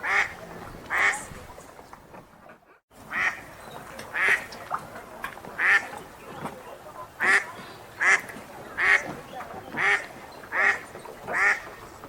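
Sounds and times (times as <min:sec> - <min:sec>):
ducks quacking: 0:00.0 - 0:01.4, 0:03.0 - 0:04.8, 0:05.5 - 0:12.0.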